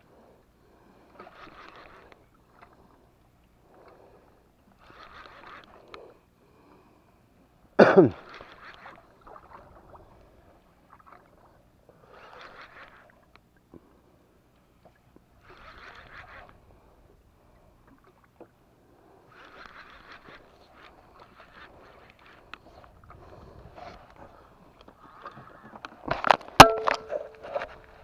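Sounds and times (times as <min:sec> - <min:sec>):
water lapping against boat hull: 0:00.6 - 0:06.3, 0:08.2 - 0:28.0.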